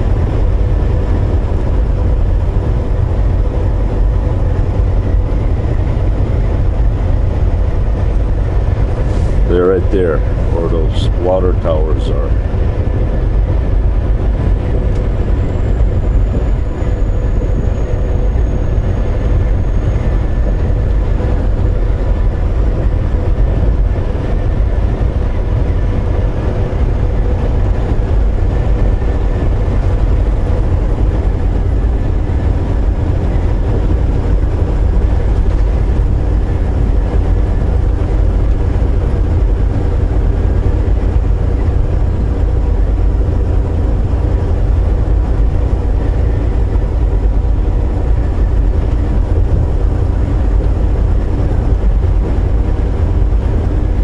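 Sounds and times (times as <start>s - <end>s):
constant hum: 0.0s - 54.0s
diesel engine drone: 0.0s - 54.0s
road noise: 0.0s - 54.0s.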